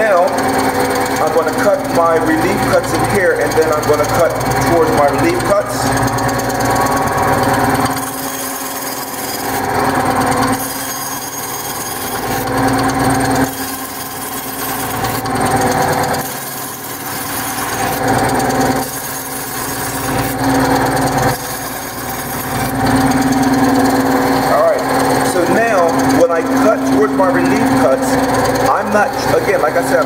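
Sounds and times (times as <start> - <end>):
bandsaw cutting wood: 0.0 - 30.0.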